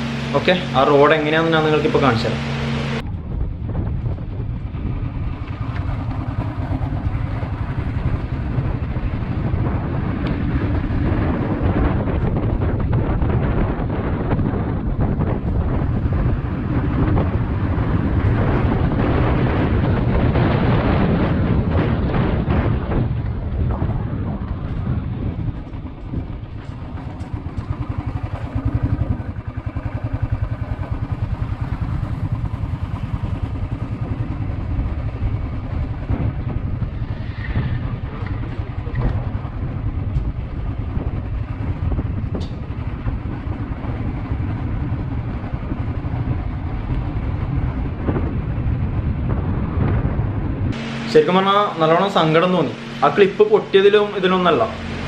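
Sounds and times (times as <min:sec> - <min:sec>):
motorcycle engine rumble: 0:00.0 - 0:55.0
wind noise on microphone: 0:00.0 - 0:55.0.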